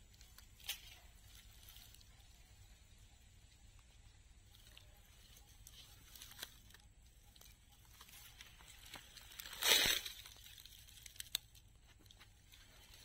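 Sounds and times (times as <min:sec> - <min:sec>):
plants rustling: 0:00.0 - 0:02.6, 0:04.4 - 0:13.0.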